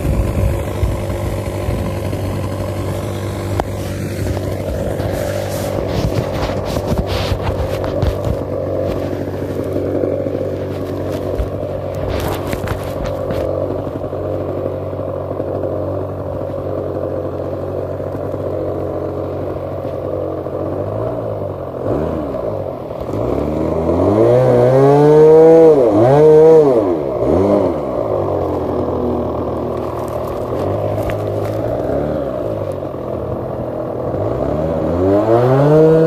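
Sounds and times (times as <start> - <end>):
model airplane engine revving: 0.0 - 36.0.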